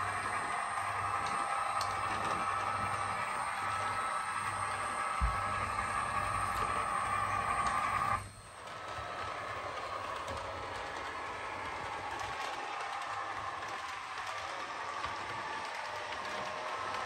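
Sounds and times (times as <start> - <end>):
model train motor whine: 0.0 - 17.0
wheels rolling on rails: 0.0 - 17.0.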